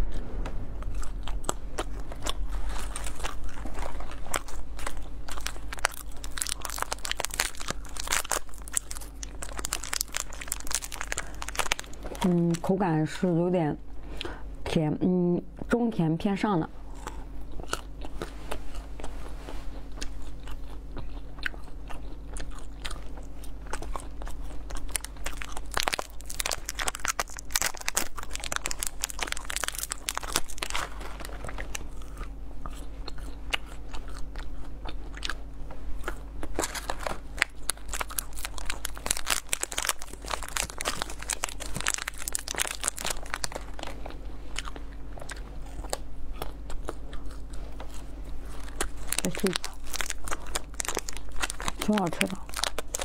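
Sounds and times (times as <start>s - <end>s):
almonds crunching: 0.8s - 12.9s, 16.9s - 19.1s, 19.7s - 53.0s
chewing soft sweets: 0.8s - 13.2s, 16.7s - 53.0s.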